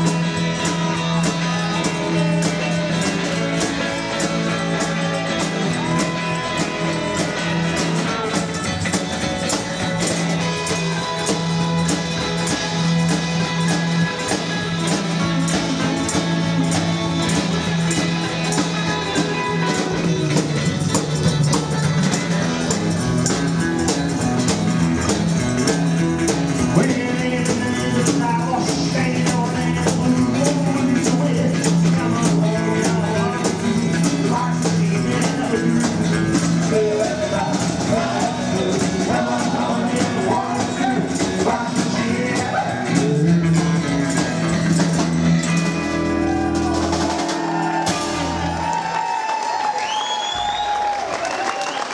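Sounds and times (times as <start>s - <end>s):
rockabilly band playing: 0.0s - 51.9s.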